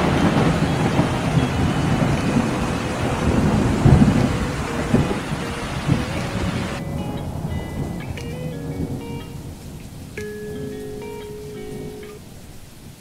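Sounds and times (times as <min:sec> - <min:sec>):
rain hiss: 0:00.0 - 0:13.0
thunder rumbles: 0:00.0 - 0:13.0.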